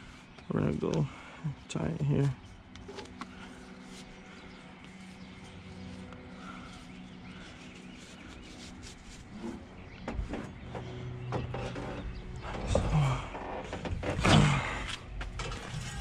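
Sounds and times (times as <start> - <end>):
steady low hum: 0.0 - 16.0
strap rubbing: 2.1 - 16.0.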